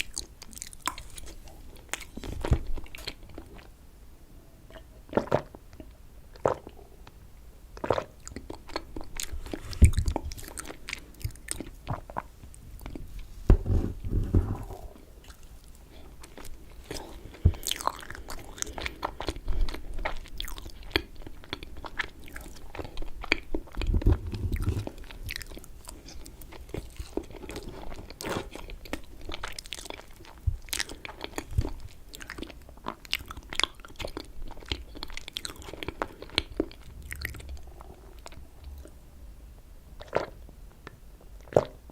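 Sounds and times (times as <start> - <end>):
close chewing with wet mouth clicks: 0.0 - 3.7, 7.8 - 13.0, 15.2 - 39.0, 40.0 - 41.8.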